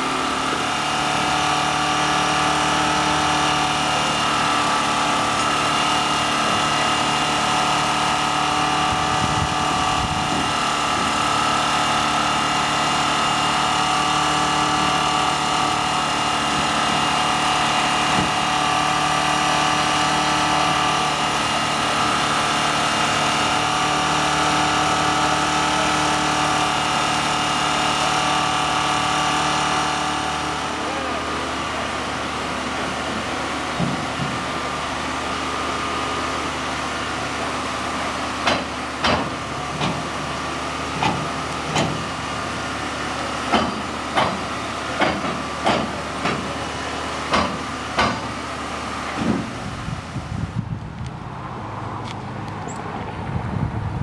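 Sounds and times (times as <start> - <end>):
engine-driven machine droning: 0.0 - 54.0.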